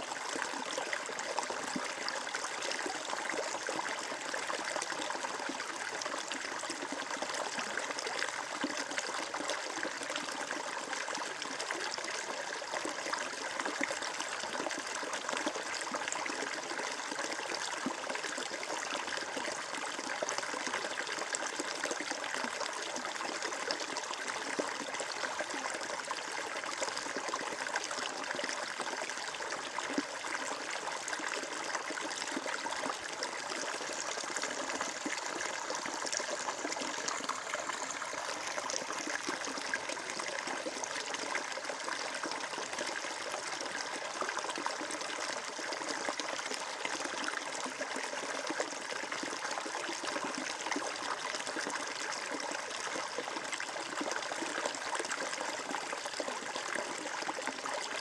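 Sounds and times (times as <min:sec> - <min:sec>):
stream trickling and babbling: 0:00.0 - 0:58.0.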